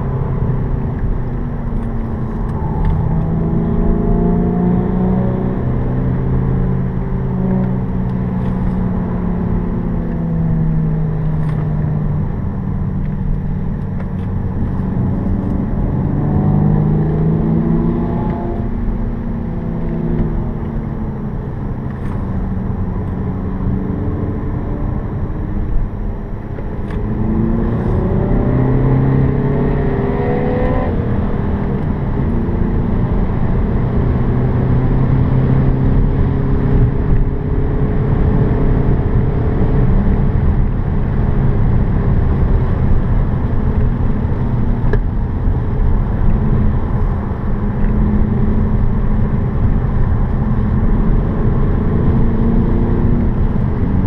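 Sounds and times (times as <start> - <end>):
car engine accelerating: 0.0 - 54.0
tyre and road noise: 0.0 - 54.0.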